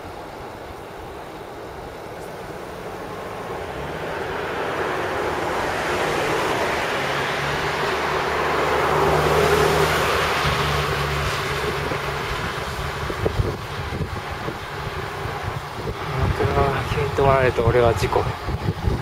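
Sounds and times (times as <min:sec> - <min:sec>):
wind rushing over microphone: 0:00.0 - 0:19.0
tyre and road rumble: 0:02.0 - 0:19.0.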